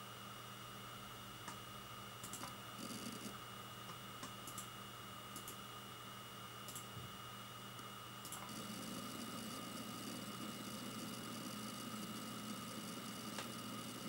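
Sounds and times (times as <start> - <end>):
hard drive humming and whining: 0.0 - 14.0.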